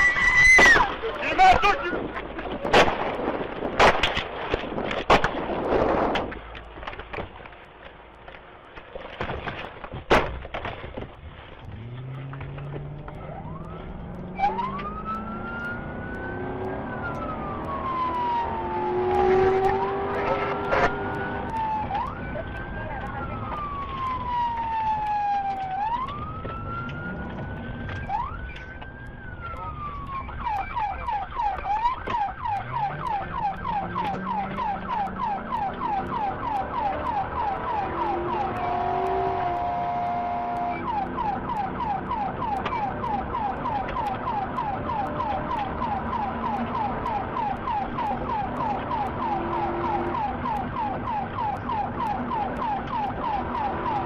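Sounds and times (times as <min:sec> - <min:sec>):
steady siren tone: 0:00.0 - 0:02.1, 0:11.8 - 0:54.0
police siren wailing and yelping: 0:00.0 - 0:02.8, 0:12.6 - 0:54.0.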